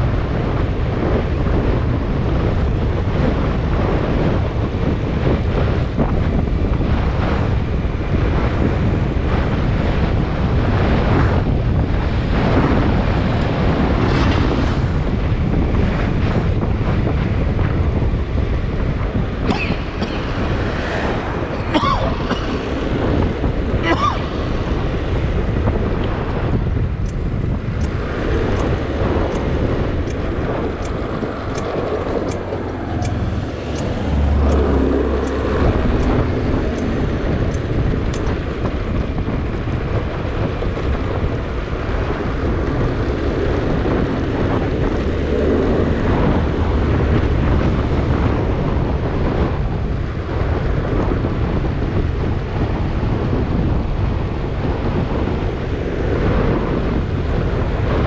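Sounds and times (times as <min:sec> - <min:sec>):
low road rumble: 0:00.0 - 0:58.0
wind buffeting microphone: 0:00.0 - 0:58.0.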